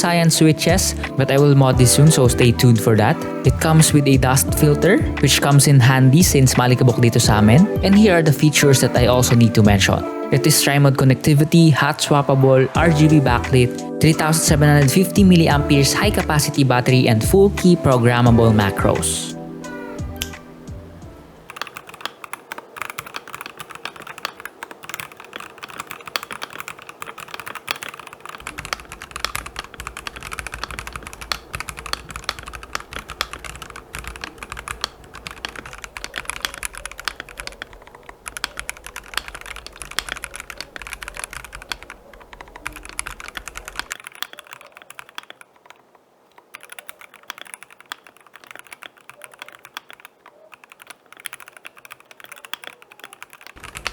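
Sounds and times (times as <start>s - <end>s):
mechanical keyboard typing: 0.0s - 53.9s.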